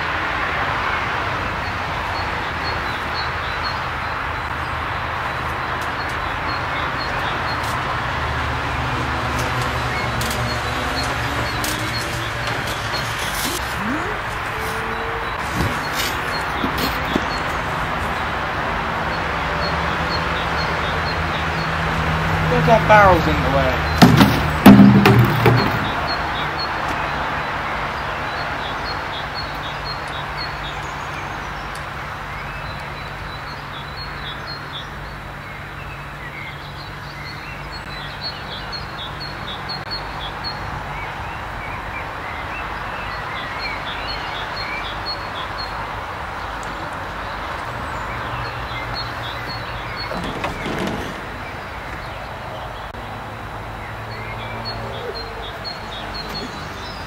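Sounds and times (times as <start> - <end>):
birds chirping: 0.9 - 57.0.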